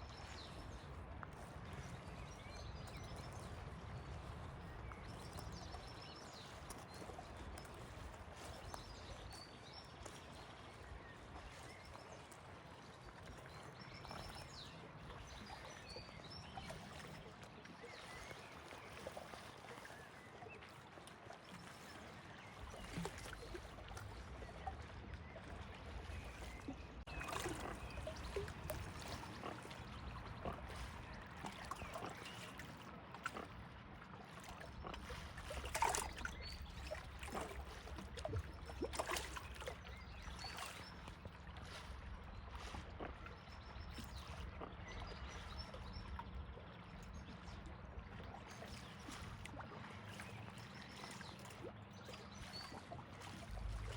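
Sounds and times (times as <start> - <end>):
water lapping at shore: 0.0 - 53.9.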